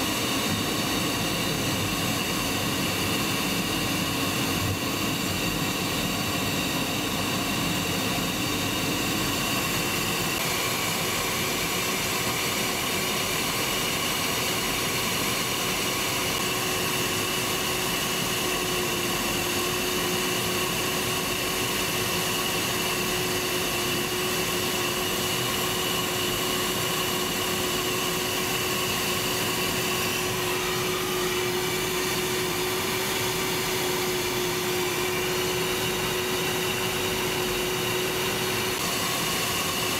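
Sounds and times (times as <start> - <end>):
jet engines running: 0.0 - 39.9
steady whine: 0.0 - 39.9.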